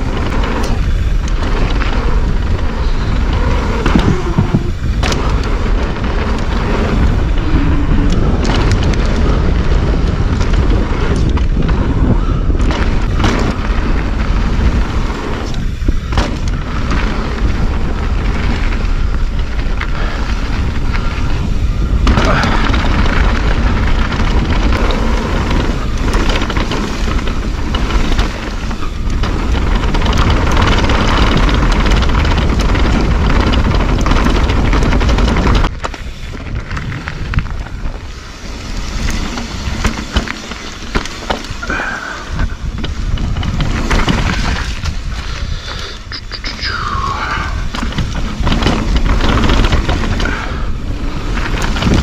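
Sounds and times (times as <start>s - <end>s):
bike tyres and frame clattering: 0.0s - 52.0s
wind buffeting microphone: 0.0s - 52.0s.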